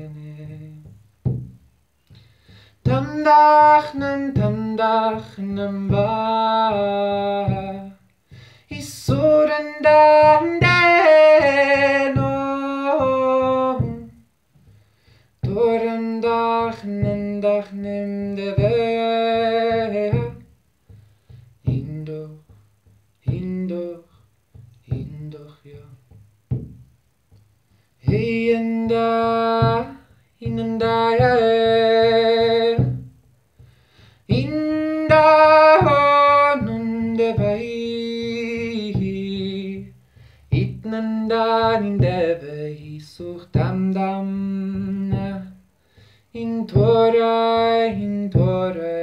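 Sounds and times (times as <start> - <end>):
man singing held notes: 0.0 - 1.4, 2.0 - 26.2, 27.7 - 49.0
frame drum low thuds: 0.0 - 49.0.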